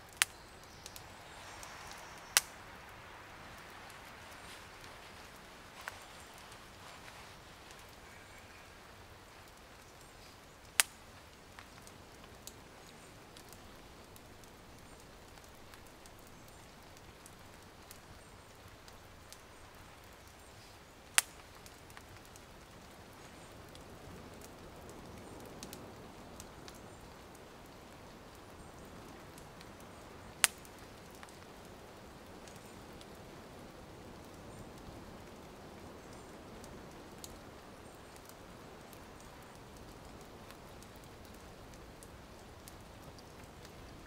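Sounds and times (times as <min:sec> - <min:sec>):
campfire crackling: 0:00.0 - 0:44.0
light rain hiss: 0:00.0 - 0:44.0.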